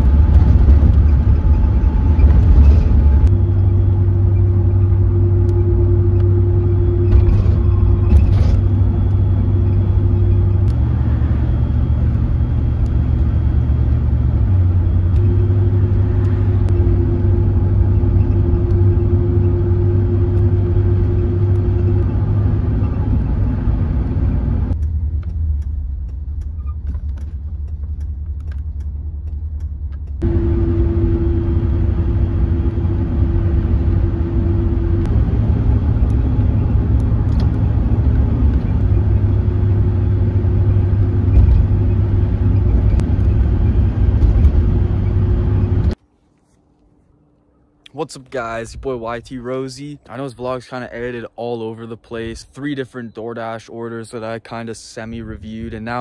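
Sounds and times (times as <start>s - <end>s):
car interior road rumble: 0.0s - 46.1s.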